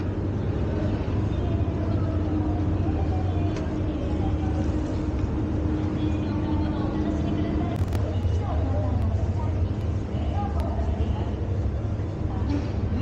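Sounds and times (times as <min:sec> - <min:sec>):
city street traffic drone: 0:00.0 - 0:13.0
faint voices: 0:00.0 - 0:13.0
low engine hum: 0:00.0 - 0:13.0.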